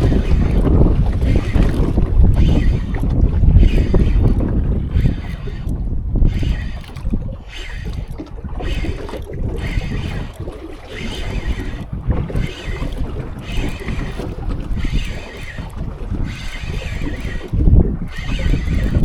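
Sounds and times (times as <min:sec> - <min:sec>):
rhythmic rushing sound: 0:00.0 - 0:19.0
water sloshing against boat: 0:00.0 - 0:19.0
wind buffeting microphone: 0:00.0 - 0:19.0.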